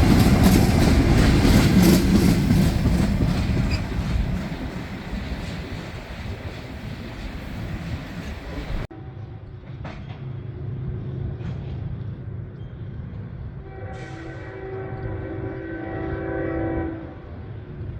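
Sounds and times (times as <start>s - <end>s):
diesel locomotive rumble: 0.0s - 17.9s
freight train rolling on rails: 0.0s - 17.9s.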